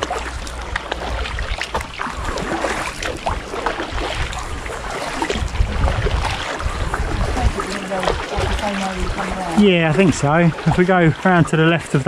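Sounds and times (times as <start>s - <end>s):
kayak paddles dipping in water: 0.0s - 12.0s
water drips and splashes: 0.0s - 12.0s.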